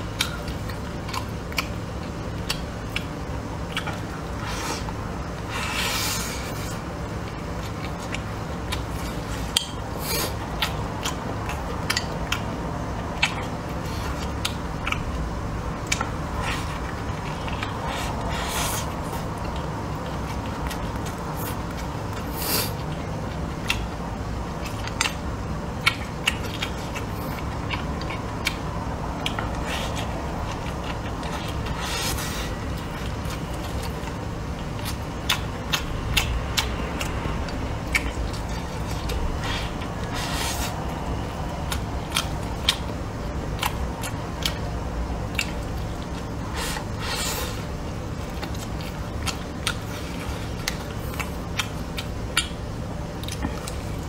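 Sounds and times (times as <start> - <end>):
person chewing food: 0.0 - 54.0
steady low hum: 0.0 - 54.0.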